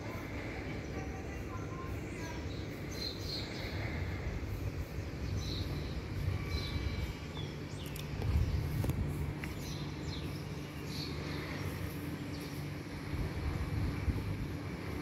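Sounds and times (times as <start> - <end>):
birds chirping: 0.0 - 15.0
steady low rumble: 0.0 - 15.0.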